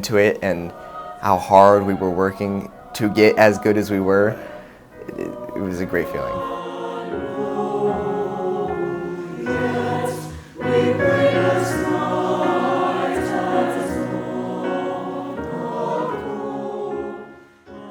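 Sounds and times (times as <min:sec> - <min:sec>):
choir singing sustained chords: 0:00.0 - 0:17.9.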